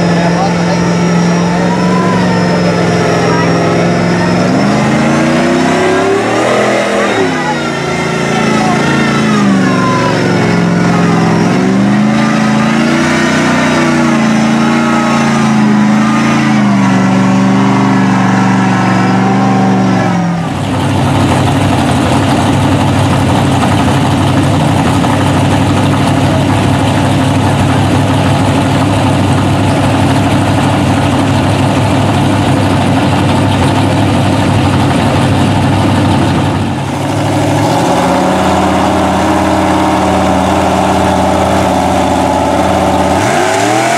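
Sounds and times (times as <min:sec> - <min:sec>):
truck driving through water and mud: 0:00.0 - 0:43.9
truck engine revving: 0:00.0 - 0:43.9.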